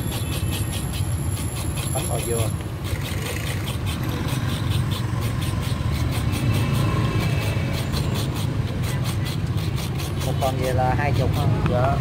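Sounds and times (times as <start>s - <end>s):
grater scraping coconut: 0.0s - 12.0s
motorbike traffic rumble: 0.0s - 12.0s.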